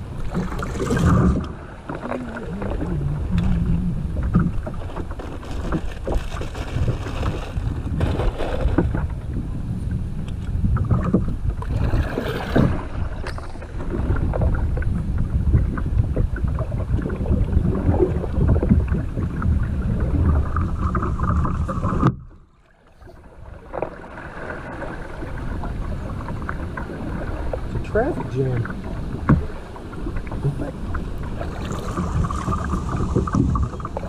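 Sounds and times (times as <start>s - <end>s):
low rumble: 0.0s - 34.0s
water splashing against kayak: 0.0s - 34.0s.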